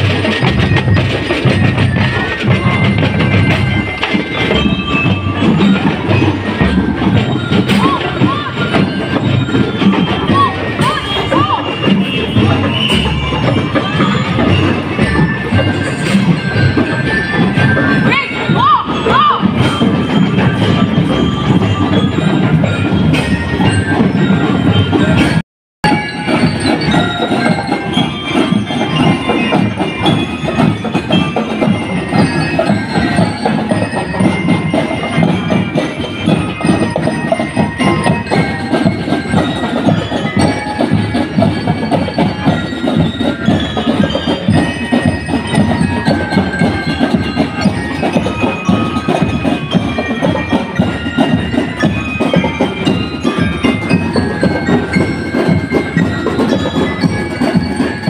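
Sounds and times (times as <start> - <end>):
bell lyres playing melody: 0.0 - 58.0
marching drums: 0.0 - 58.0.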